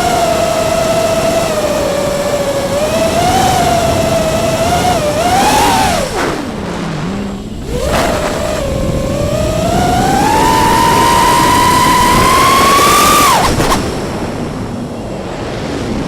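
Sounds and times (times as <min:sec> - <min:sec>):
electric motors whining: 0:00.0 - 0:15.3.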